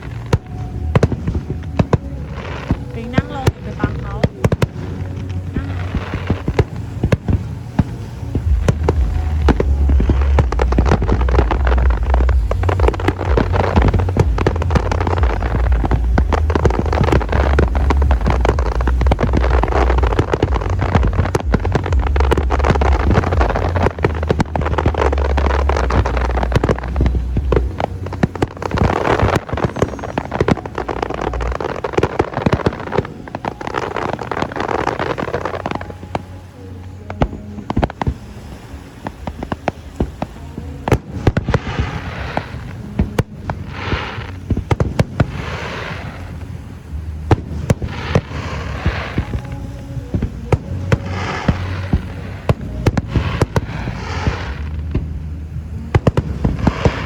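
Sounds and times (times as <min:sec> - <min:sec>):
deep fireworks rumble: 0:00.0 - 0:57.0
firework bangs and crackles: 0:00.0 - 0:57.0.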